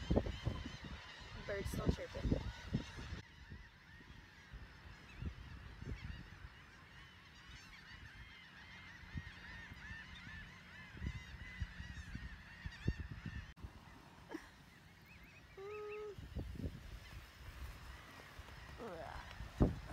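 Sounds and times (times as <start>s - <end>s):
seagulls calling: 0.0s - 19.9s.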